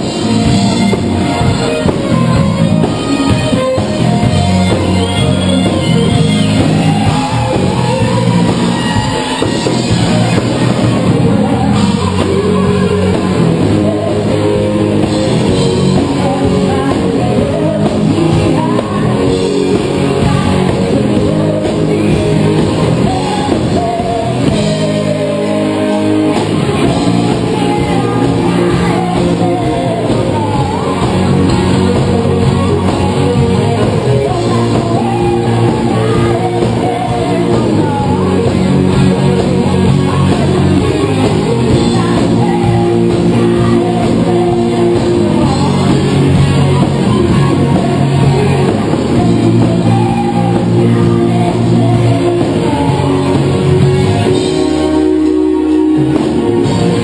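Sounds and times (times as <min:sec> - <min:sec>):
drum kit: 0:00.0 - 0:57.0
electric guitar: 0:00.0 - 0:57.0
keyboard: 0:00.0 - 0:57.0
woman singing: 0:00.0 - 0:57.0.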